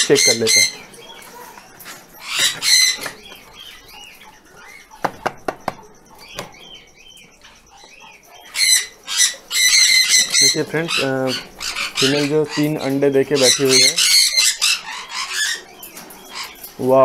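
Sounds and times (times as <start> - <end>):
parrot chirps: 0.0 - 16.7
parrot squawking: 0.0 - 16.8.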